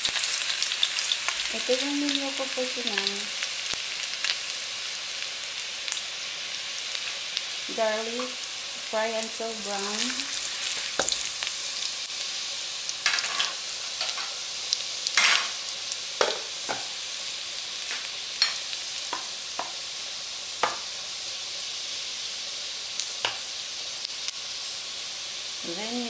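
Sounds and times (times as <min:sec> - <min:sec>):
garlic sizzling in hot oil: 0:00.0 - 0:26.0.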